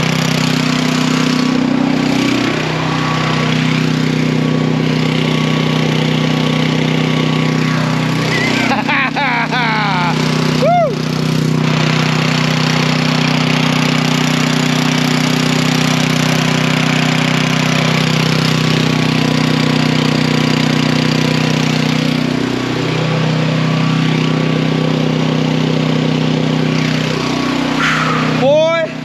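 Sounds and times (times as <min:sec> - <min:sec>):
generator engine running: 0:00.0 - 0:29.0.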